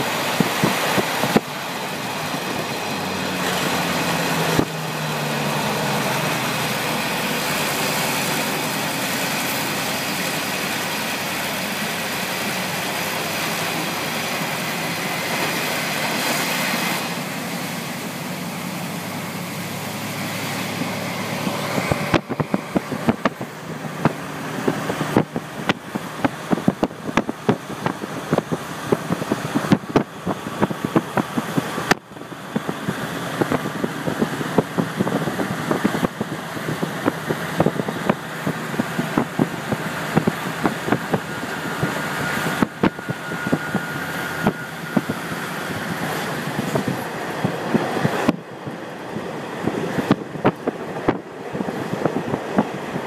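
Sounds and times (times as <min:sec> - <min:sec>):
diesel railcar engine running: 0:00.0 - 0:53.0.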